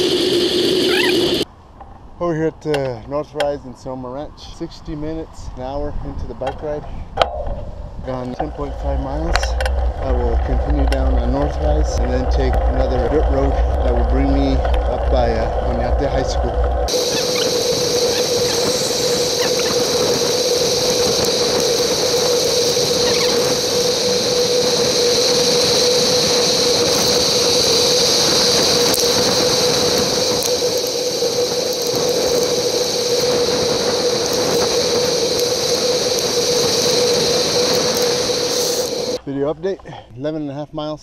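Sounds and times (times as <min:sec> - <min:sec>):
steady hum: 0:00.0 - 0:01.4, 0:07.2 - 0:39.3
bicycle tyre noise: 0:00.0 - 0:01.5, 0:07.7 - 0:39.2
rushing wind: 0:00.0 - 0:39.3.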